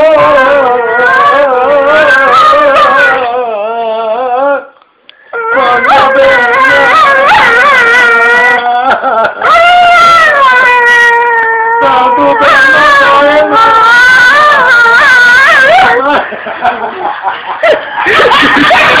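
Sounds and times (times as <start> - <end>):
dog howling: 0.0 - 4.7, 5.3 - 16.2.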